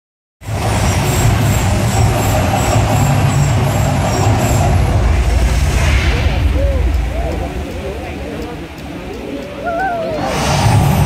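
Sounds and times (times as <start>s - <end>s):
loud low rumble of flames: 0.4s - 11.0s.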